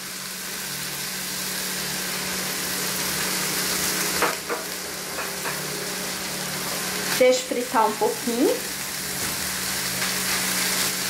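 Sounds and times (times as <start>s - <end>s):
eggs and beef sizzling in a pan: 0.0s - 11.0s.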